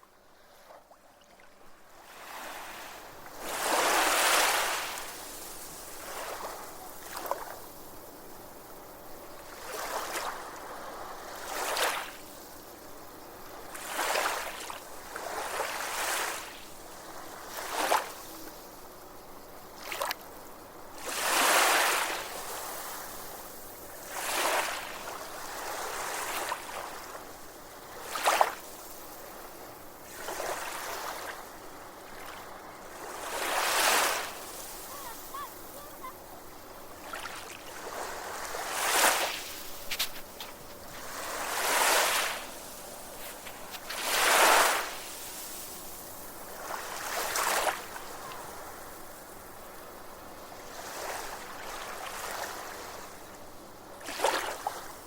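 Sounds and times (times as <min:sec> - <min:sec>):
small waves breaking ashore: 0:00.0 - 0:55.0
steady surf hiss: 0:01.6 - 0:55.0.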